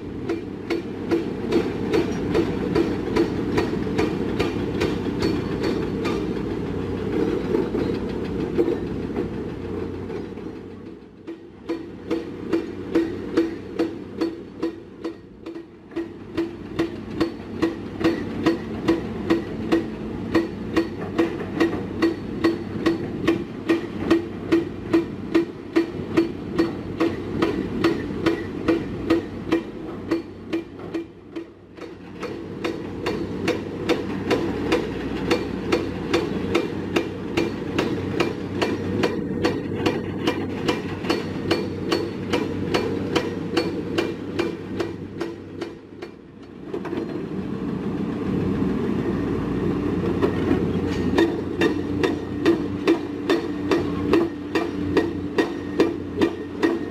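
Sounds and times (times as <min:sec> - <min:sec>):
diesel engine running: 0:00.0 - 0:56.9
hydraulic rock breaker pounding rock: 0:00.2 - 0:47.2, 0:50.0 - 0:56.9.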